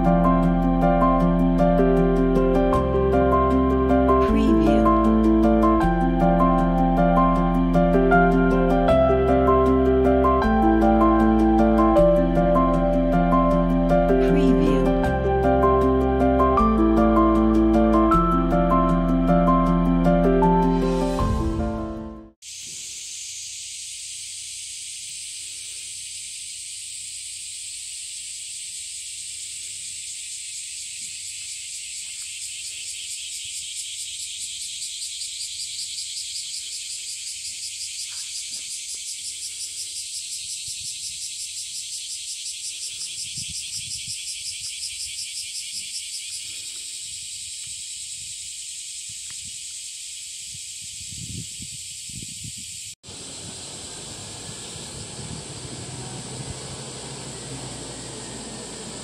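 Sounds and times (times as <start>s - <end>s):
cicadas chorus: 0.0s - 18.1s, 22.4s - 59.0s.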